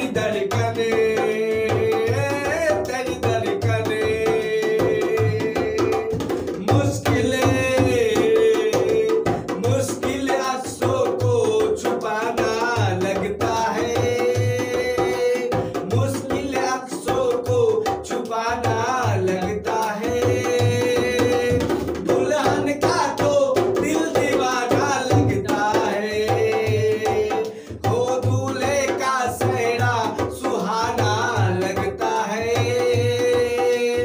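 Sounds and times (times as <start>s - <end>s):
hand drum beat: 0.0s - 34.0s
man singing: 0.0s - 34.0s.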